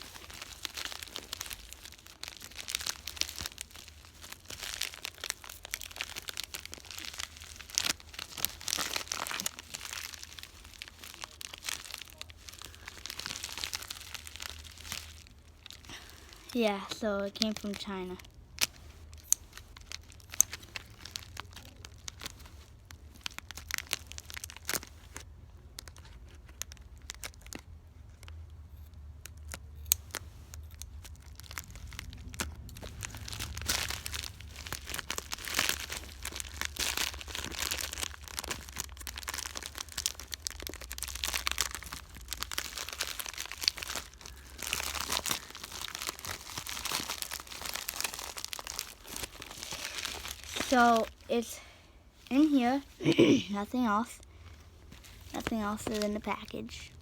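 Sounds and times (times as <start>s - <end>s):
package wrapping crinkling: 0.0s - 28.4s, 29.2s - 57.0s
package being torn open: 0.1s - 16.1s, 18.6s - 28.4s, 29.2s - 51.2s.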